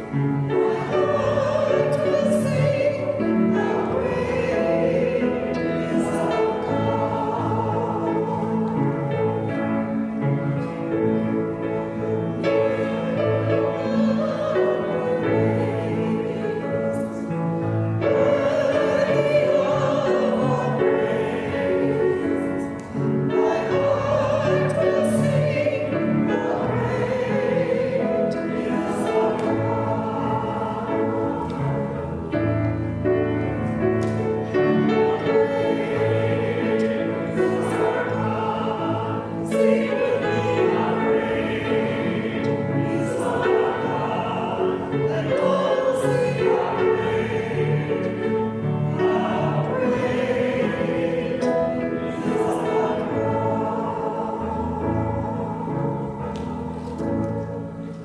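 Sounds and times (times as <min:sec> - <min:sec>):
group singing worship song: 0:00.0 - 0:10.4, 0:11.1 - 0:58.0.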